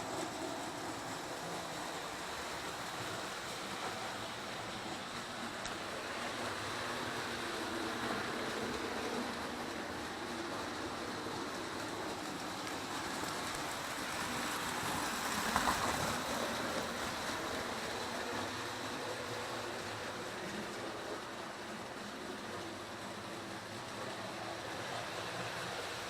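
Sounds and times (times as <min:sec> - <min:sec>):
model train wheels clattering: 0:00.0 - 0:26.0.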